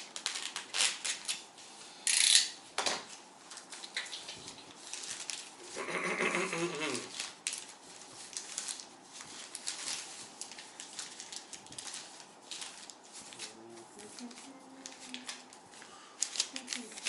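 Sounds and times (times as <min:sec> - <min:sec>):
packaging rustling and crinkling: 0:00.0 - 0:01.8, 0:03.0 - 0:17.0.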